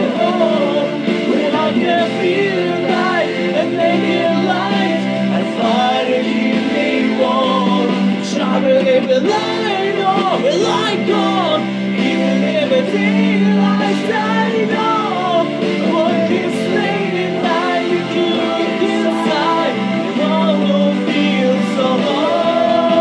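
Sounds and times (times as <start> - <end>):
man singing: 0.0 - 23.0
sustained backing accompaniment: 0.0 - 23.0.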